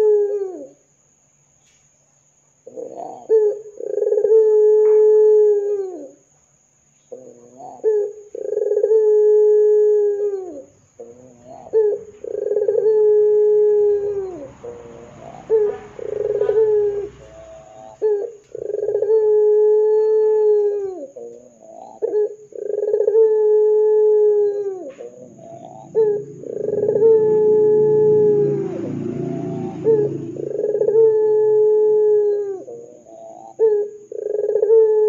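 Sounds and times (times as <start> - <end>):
dove cooing: 0.0 - 0.8, 2.6 - 6.2, 7.1 - 35.0.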